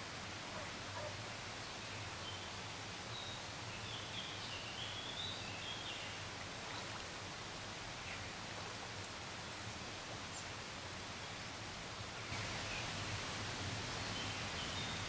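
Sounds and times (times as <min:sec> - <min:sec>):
faint pond-side ambience hiss: 0:00.0 - 0:15.0.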